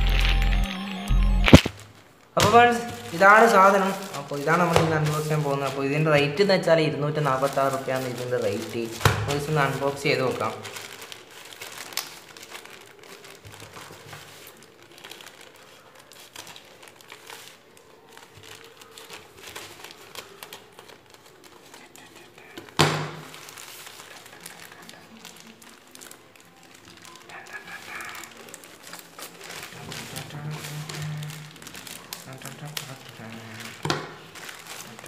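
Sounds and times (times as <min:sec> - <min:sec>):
plastic mailer crinkling and rustling: 0:01.4 - 0:35.0.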